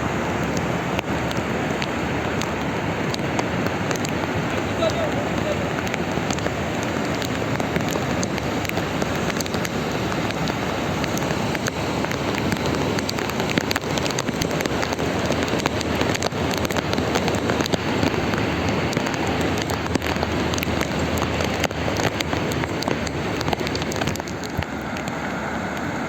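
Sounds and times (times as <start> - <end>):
close raindrop strikes: 0.0 - 26.0
heavy rain falling: 0.0 - 26.0.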